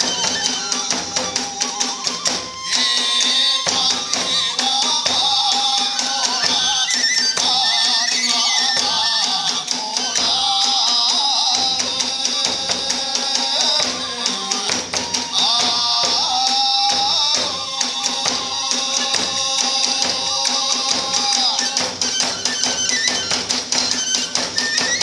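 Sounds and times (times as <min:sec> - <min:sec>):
bamboo flute melody: 0:00.0 - 0:10.8, 0:13.4 - 0:25.0
rapid drum strokes: 0:00.0 - 0:25.0.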